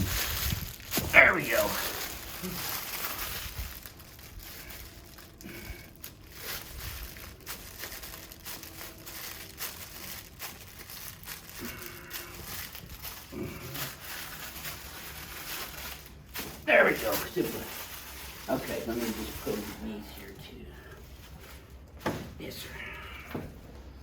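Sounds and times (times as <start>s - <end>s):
paper sheet crinkling: 0.0s - 22.0s.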